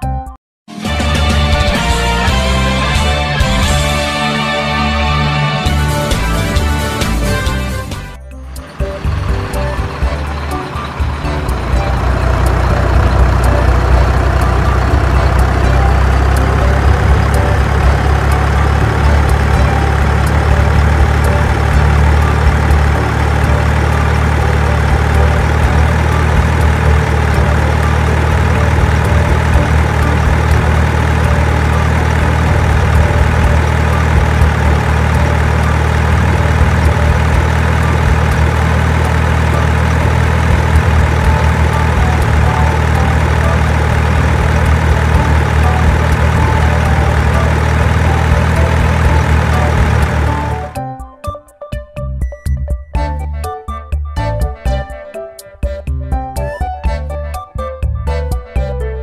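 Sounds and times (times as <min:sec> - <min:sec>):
engine idling: 0:00.9 - 0:50.8.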